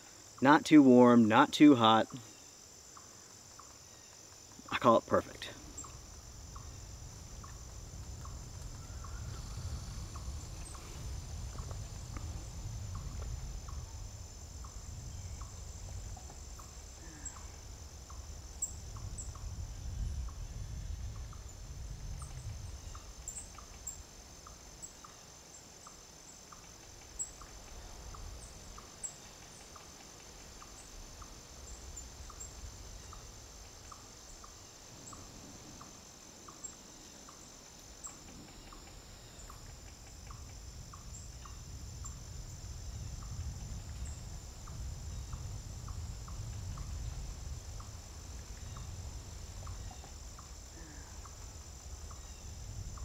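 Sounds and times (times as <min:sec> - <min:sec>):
high insect trill: 0:00.0 - 0:53.0.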